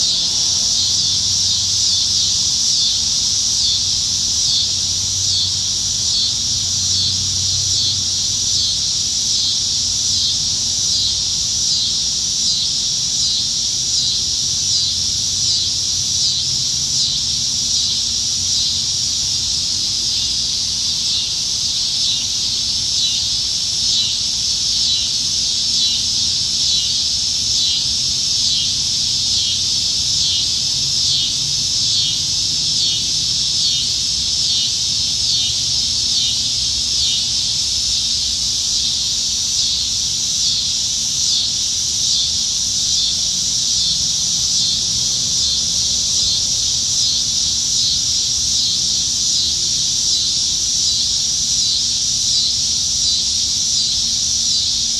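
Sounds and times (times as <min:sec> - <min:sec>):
cicadas buzzing: 0:00.0 - 0:54.9.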